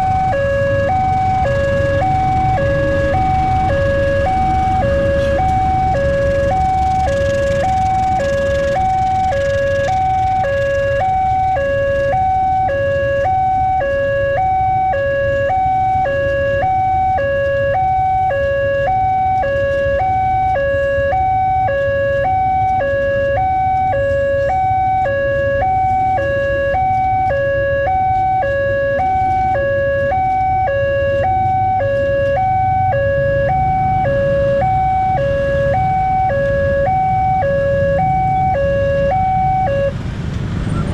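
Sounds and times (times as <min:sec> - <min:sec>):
two-tone crossing siren wail: 0:00.0 - 0:40.9.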